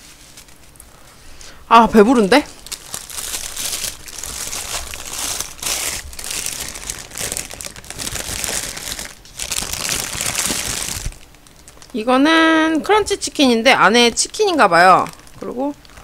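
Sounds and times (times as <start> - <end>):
paper wrapper crinkling: 0.0 - 0.9, 2.1 - 12.1, 14.1 - 16.0.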